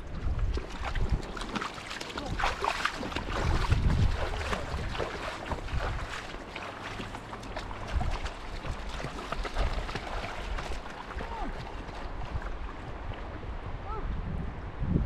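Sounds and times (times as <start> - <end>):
splashing through shallow water: 0.0 - 14.0
wind rumbling on microphone: 0.0 - 15.0.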